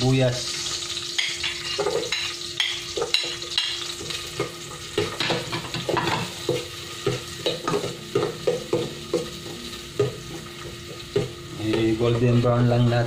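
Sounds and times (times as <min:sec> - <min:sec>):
garlic and onion sizzling in oil: 0:00.0 - 0:13.0.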